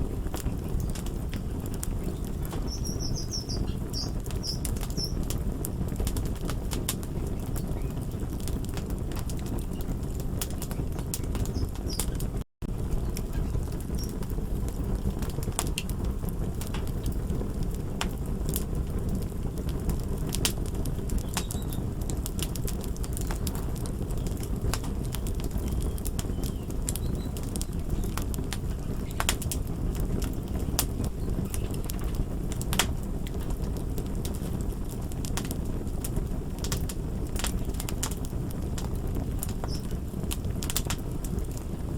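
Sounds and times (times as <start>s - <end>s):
fire crackling and popping: 0.0s - 41.9s.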